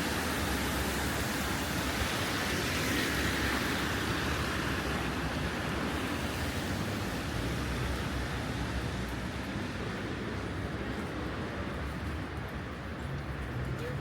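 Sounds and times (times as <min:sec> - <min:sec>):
tyres on wet street: 0:00.0 - 0:14.0.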